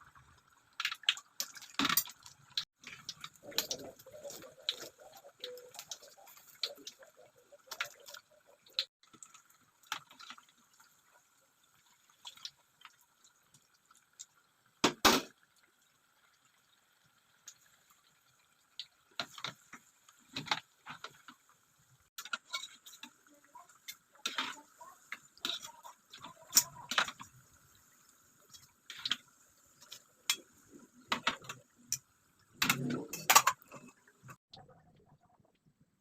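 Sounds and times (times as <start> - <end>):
liquid splashing and dripping: 0.0 - 34.7.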